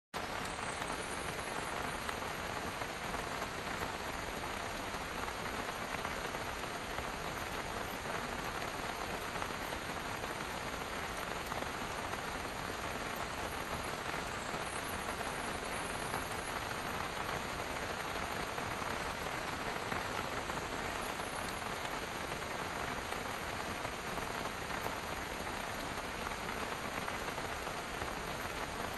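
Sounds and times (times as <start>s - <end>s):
rain patter on car roof: 0.2s - 28.9s.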